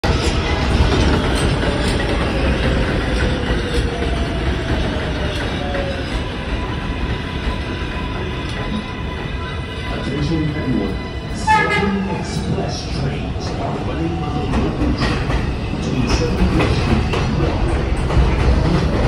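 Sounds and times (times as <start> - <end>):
subway train wheels clattering: 0.0 - 19.0.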